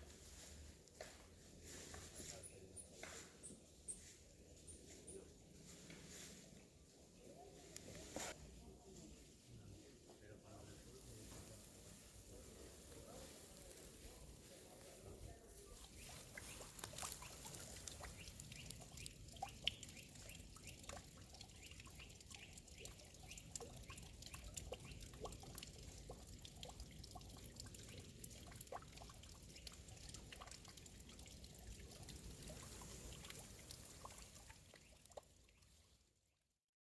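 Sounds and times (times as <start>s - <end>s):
water trickling and dripping: 0.0s - 9.2s, 10.1s - 36.4s.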